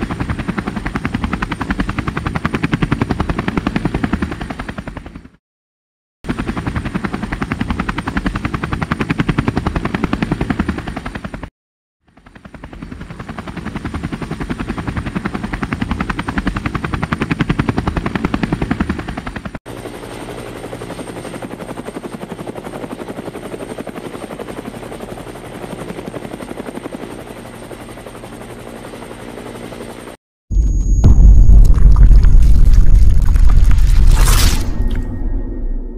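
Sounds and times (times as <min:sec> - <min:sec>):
helicopter engine hum: 0:00.0 - 0:05.4, 0:06.3 - 0:11.5, 0:12.1 - 0:33.7
helicopter rotor blades beating: 0:00.0 - 0:05.4, 0:06.3 - 0:11.5, 0:12.1 - 0:33.7.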